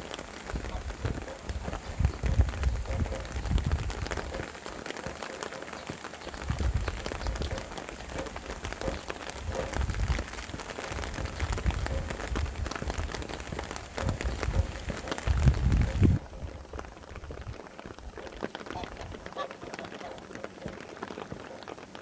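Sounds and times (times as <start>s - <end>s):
rain falling: 0.0s - 22.0s
wind gusts: 0.0s - 22.0s.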